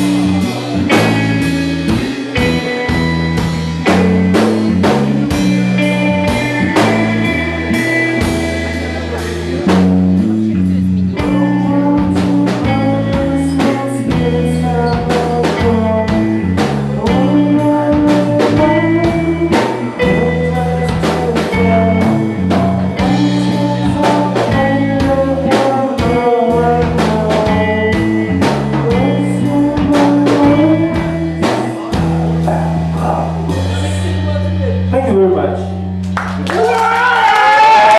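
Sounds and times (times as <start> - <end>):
bass notes: 0.0 - 37.9
drum kit beat: 0.0 - 37.9
guitar: 0.0 - 37.9
person singing: 3.8 - 34.8.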